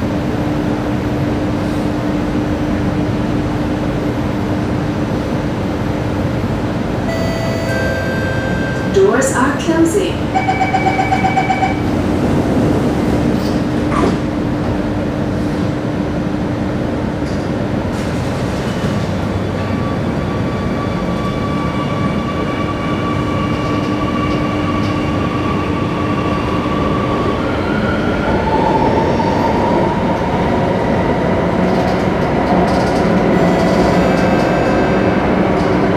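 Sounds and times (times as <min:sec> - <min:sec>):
train rumble inside carriage: 0:00.0 - 0:35.9.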